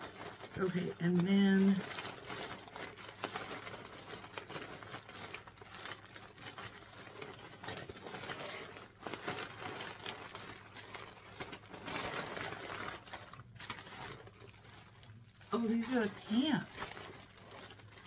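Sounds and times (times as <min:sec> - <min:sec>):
packaging and fabric rustling: 0:00.0 - 0:18.0.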